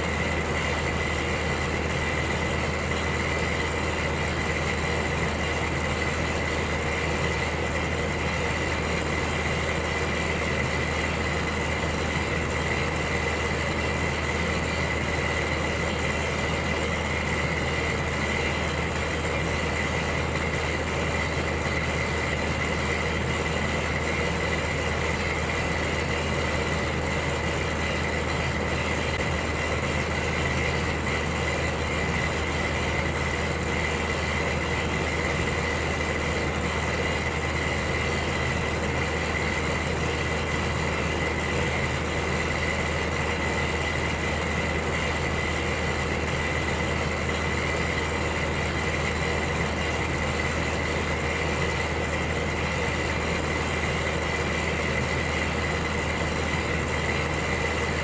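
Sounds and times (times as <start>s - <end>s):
electric heater humming: 0.0s - 58.0s.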